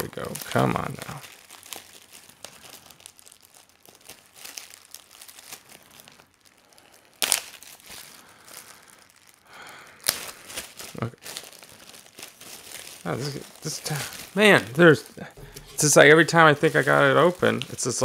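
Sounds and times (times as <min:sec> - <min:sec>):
plastic wrapping crinkling: 0:00.0 - 0:18.0
packing tape ripping: 0:00.2 - 0:17.8.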